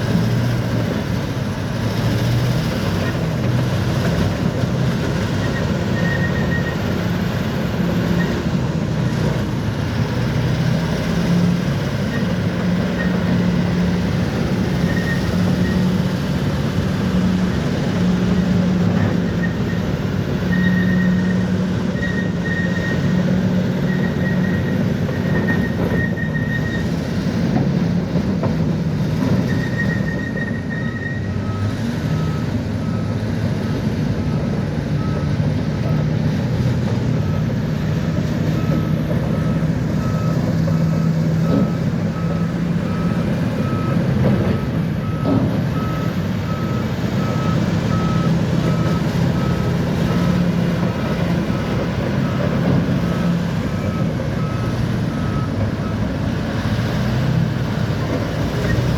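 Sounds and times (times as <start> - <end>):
bulldozer diesel engine droning: 0.0 - 58.9.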